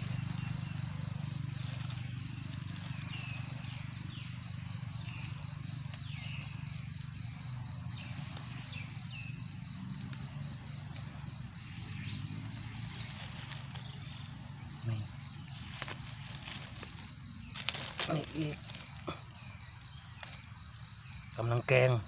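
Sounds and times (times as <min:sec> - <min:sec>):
dry leaves crackling: 0:00.0 - 0:21.4
bird chirping: 0:00.0 - 0:22.0
insect drone: 0:00.0 - 0:22.0.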